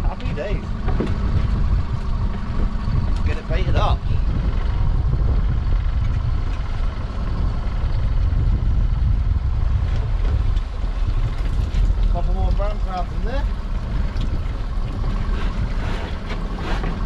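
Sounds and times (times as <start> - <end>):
boat engine idling: 0.0 - 17.0
wind on microphone: 0.0 - 17.0.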